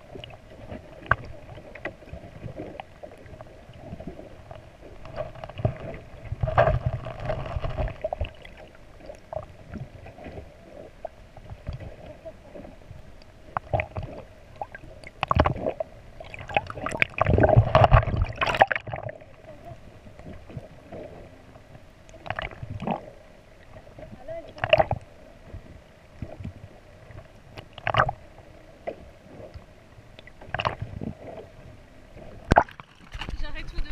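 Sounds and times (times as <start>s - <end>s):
underwater hum: 0.0s - 33.9s
water bubbling and gurgling: 0.0s - 33.9s.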